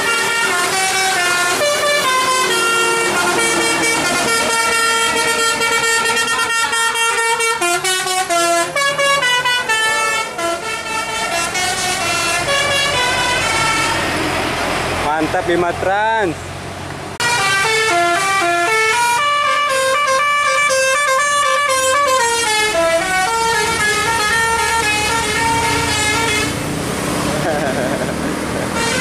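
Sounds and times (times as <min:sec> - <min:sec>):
multi-tone air horn melody: 0:00.0 - 0:14.1, 0:17.2 - 0:26.6, 0:28.7 - 0:29.0.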